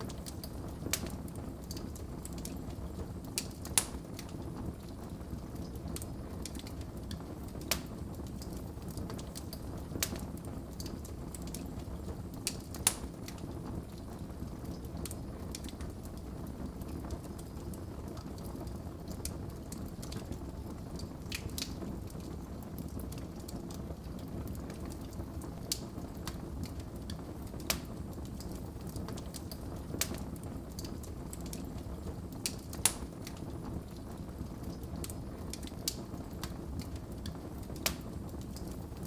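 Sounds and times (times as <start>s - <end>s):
sharp pops from fire: 0.0s - 16.2s, 16.8s - 39.0s
wood fire crackling: 0.0s - 39.0s.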